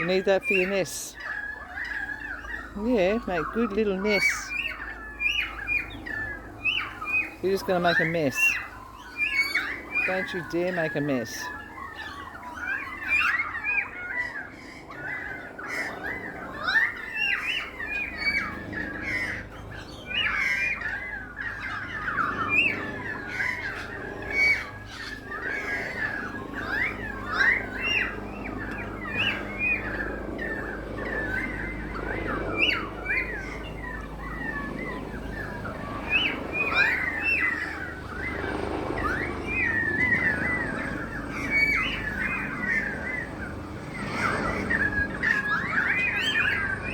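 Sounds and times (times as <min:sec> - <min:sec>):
small birds chirping and squawking: 0:00.0 - 0:46.9.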